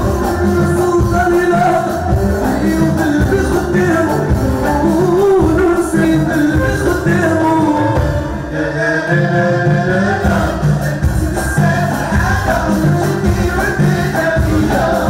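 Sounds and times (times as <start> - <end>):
hand drum beat: 0.0 - 8.4, 10.2 - 15.0
electric bass: 0.0 - 15.0
person singing: 0.0 - 15.0.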